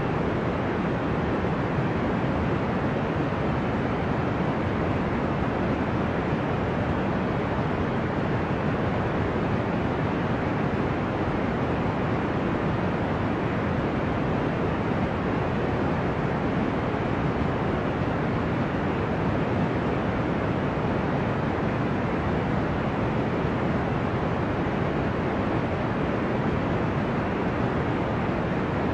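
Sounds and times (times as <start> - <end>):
deep white noise rush: 0.0 - 28.9.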